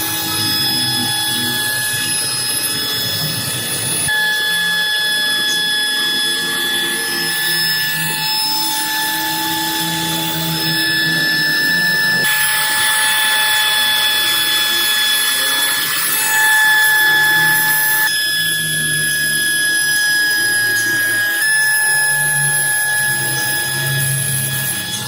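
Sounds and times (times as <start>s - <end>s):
router spindle whining: 0.0s - 25.0s.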